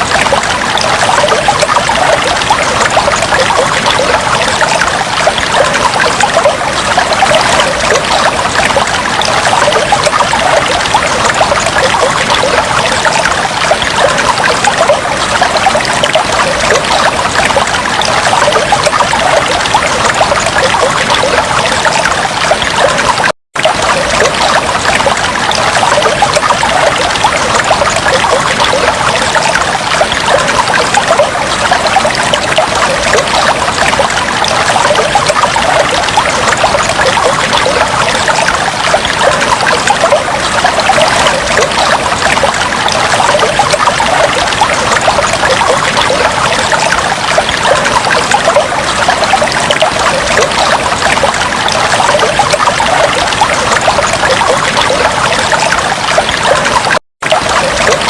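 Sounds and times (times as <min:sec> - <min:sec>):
aquarium water trickling and bubbling: 0:00.0 - 0:58.0.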